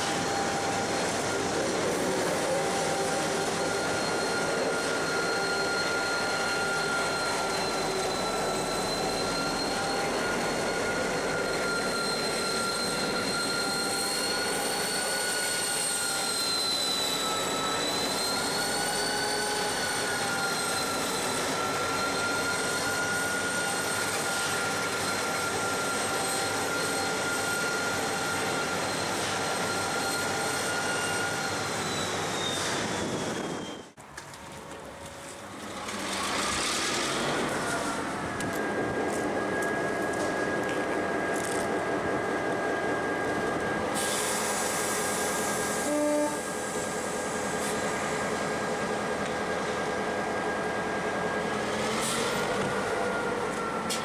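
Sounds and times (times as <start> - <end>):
diesel locomotive whine: 0.0 - 54.0.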